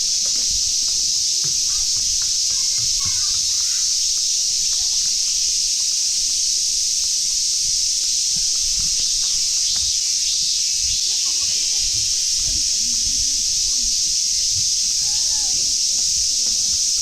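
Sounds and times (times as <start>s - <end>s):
cicadas droning: 0.0s - 17.0s
soft footsteps: 0.0s - 17.0s.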